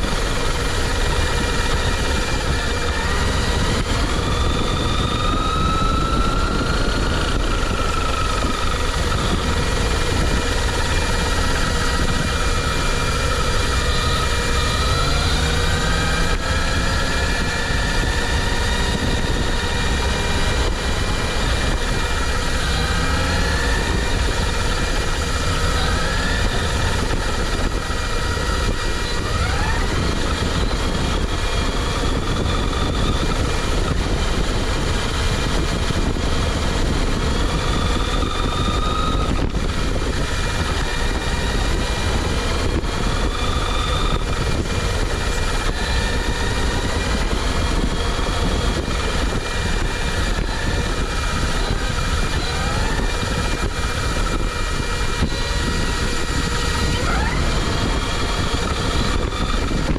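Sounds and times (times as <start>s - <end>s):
faint electric motor whine: 0.0s - 59.9s
wind and running gear rumble: 0.0s - 59.9s.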